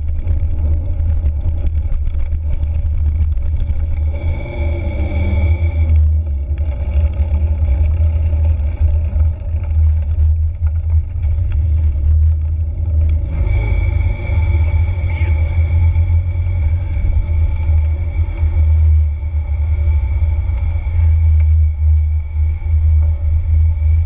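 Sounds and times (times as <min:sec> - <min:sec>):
rattling over rough ground: 0:00.0 - 0:24.0
wind and tyres rumbling: 0:00.0 - 0:24.0
steady high buzz: 0:03.1 - 0:11.8, 0:12.4 - 0:24.0.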